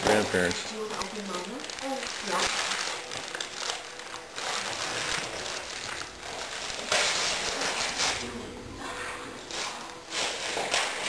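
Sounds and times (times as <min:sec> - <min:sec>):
wrapping paper rustling and crinkling: 0:00.0 - 0:11.0.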